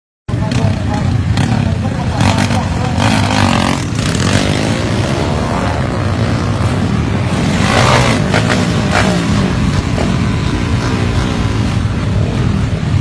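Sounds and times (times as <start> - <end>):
motorbikes revving loudly: 0.3 - 13.0.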